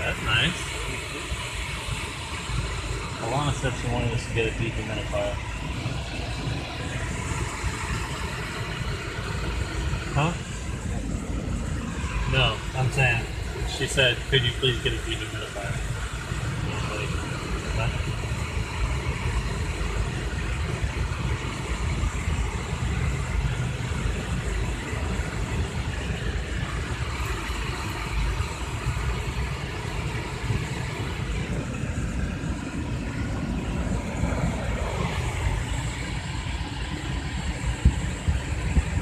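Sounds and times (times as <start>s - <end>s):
car wash spray rushing: 0.0s - 39.0s
low rumble: 0.0s - 39.0s.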